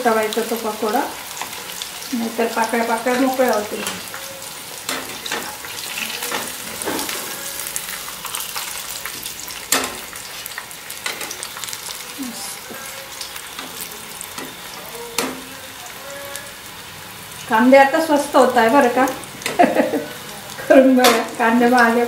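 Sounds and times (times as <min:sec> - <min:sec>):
oil sizzling and bubbling: 0:00.0 - 0:22.0.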